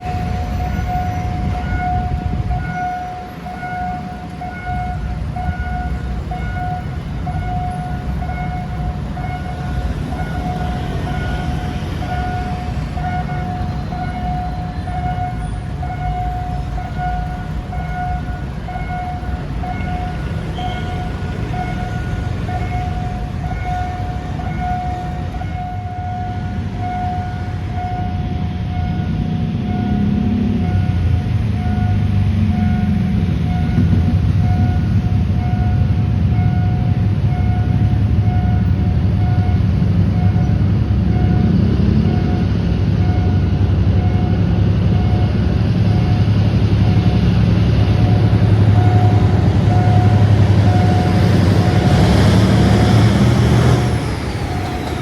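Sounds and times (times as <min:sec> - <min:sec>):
high warning tone beeping: 0:00.0 - 0:45.4
locomotive rumble: 0:00.0 - 0:55.0.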